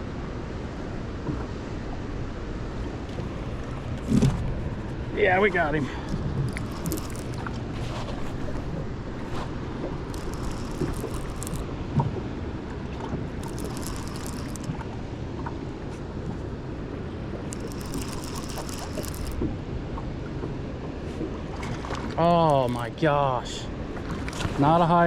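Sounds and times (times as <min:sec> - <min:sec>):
wind: 0:00.0 - 0:25.0
river water: 0:01.6 - 0:25.0.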